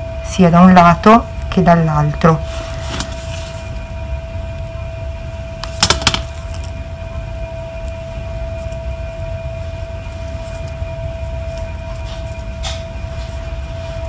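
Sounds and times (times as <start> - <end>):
constant mid-pitched tone: 0.0 - 14.0
steady low rumble: 0.0 - 14.0.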